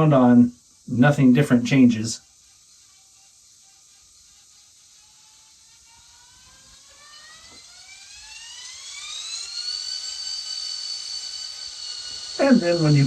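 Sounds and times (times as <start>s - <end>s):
diesel start-up whine from small speaker: 0.0s - 2.2s, 4.5s - 13.0s.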